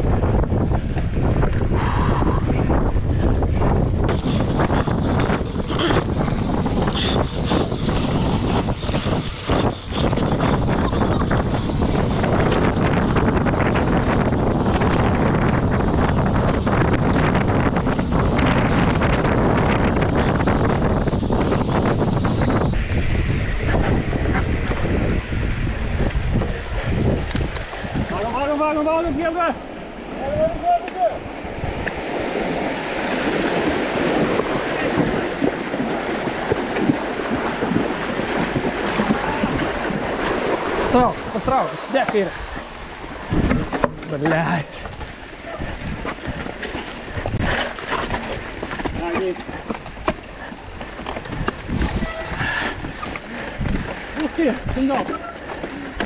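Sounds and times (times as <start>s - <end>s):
wind buffeting microphone: 0.0s - 56.0s
tyres rumbling on dirt: 4.0s - 22.9s, 23.5s - 56.0s
bikes splashing through a stream: 4.1s - 22.8s, 24.5s - 56.0s.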